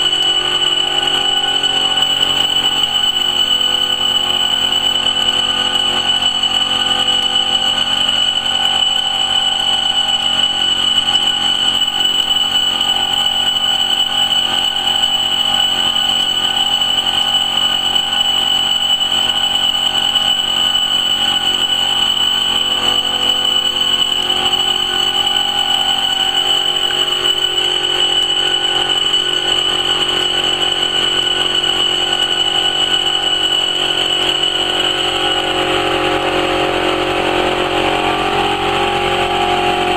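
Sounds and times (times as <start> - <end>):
high whine: 0.0 - 39.9.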